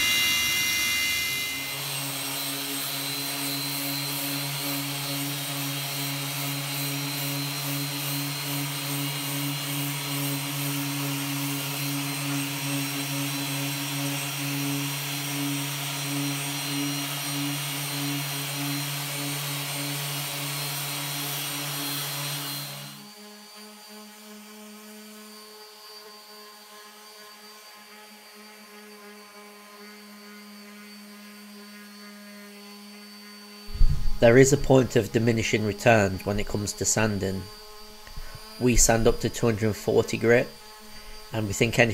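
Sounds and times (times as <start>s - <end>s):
orbital sanders humming and hissing: 0.0s - 41.9s
quieter sander high hum: 0.0s - 41.9s.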